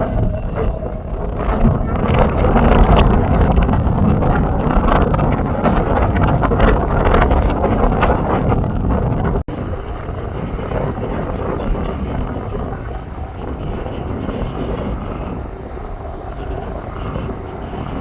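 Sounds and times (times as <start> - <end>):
airplane engines rumbling: 0.0 - 18.0.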